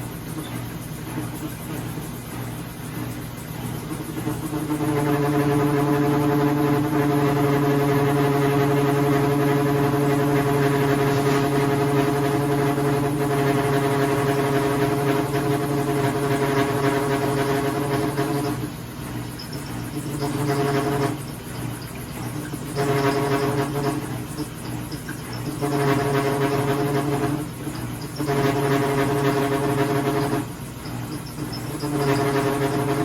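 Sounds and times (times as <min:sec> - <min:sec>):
washing machine humming drone: 0:00.0 - 0:33.0.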